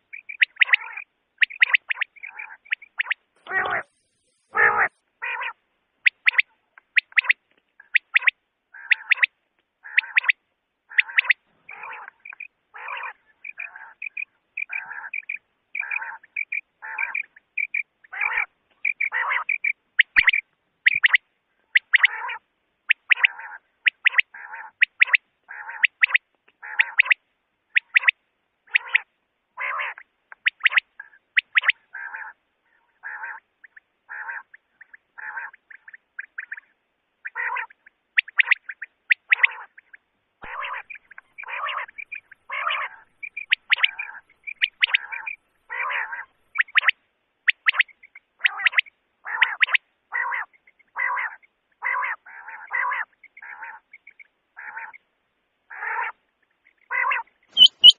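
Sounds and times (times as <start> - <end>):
quail calling: 0.0 - 55.0, 55.7 - 57.9.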